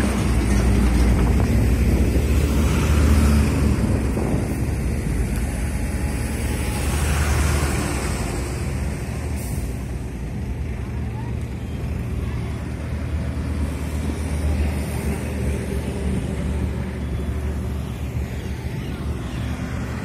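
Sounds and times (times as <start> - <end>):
heavy vehicle engine rumbling: 0.0 - 20.0
road traffic noise: 0.0 - 20.0.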